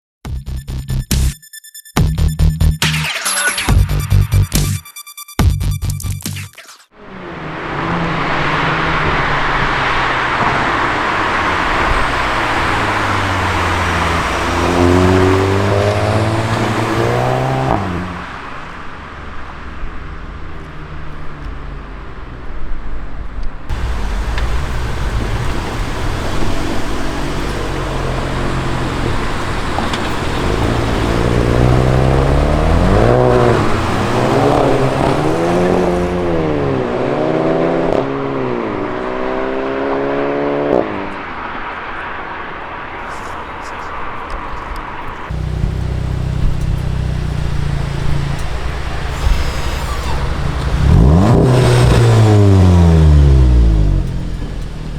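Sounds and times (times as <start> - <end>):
car engine revving: 7.0 - 54.9.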